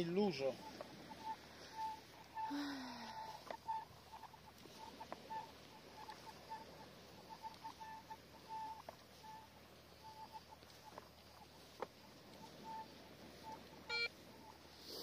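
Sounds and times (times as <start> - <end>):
metal detector beeps: 0.0 - 15.0
faint clicks: 0.6 - 14.8.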